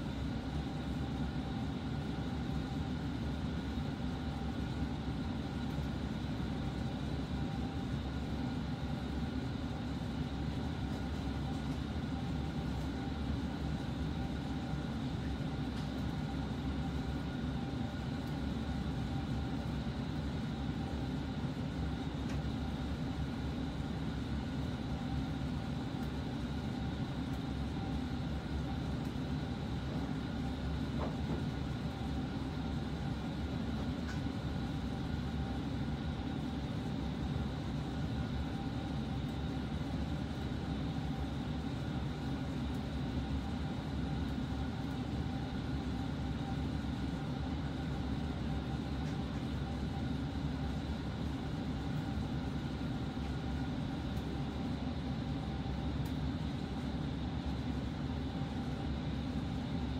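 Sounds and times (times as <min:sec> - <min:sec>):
low rumble and hum: 0:00.0 - 0:59.9.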